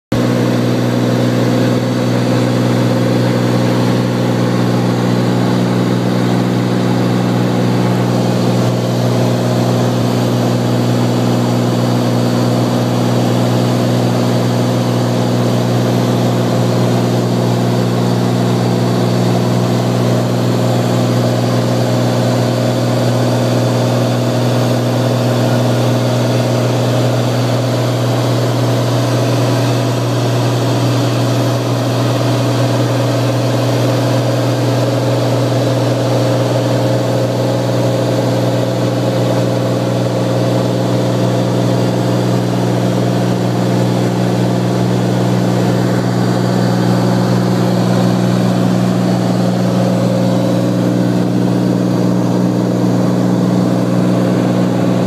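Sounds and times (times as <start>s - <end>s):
propeller plane engine drone: 0.1s - 55.0s.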